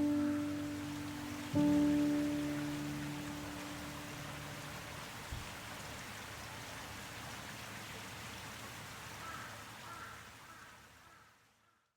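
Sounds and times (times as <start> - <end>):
steady rain: 0.0 - 11.5.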